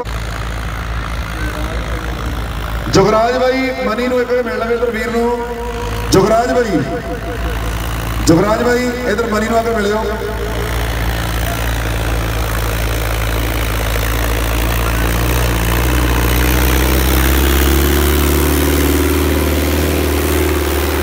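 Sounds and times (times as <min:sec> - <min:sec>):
diesel tractor running under load: 0:00.0 - 0:21.0.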